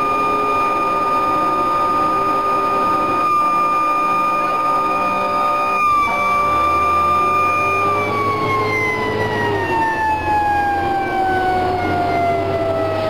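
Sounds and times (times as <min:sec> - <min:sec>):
fire engine siren winding down: 0:00.0 - 0:13.0
truck engine running: 0:00.0 - 0:13.0.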